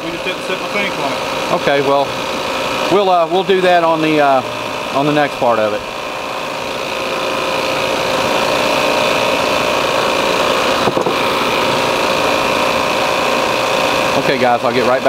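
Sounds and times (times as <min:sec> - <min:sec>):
recovery machine compressor running: 0:00.0 - 0:15.0.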